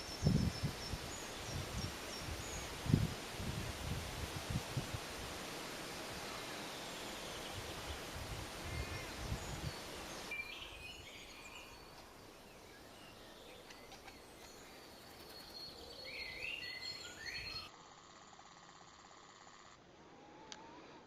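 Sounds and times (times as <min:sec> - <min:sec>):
faint outdoor background noise: 0:00.0 - 0:21.0.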